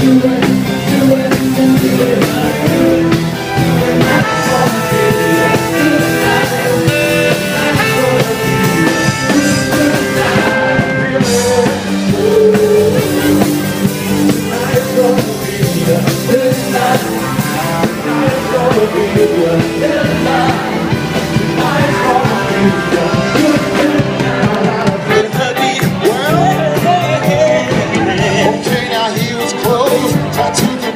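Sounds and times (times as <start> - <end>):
lead singer singing: 0.0 - 30.9
live band playing: 0.0 - 30.9
steady drum beat: 0.0 - 30.9.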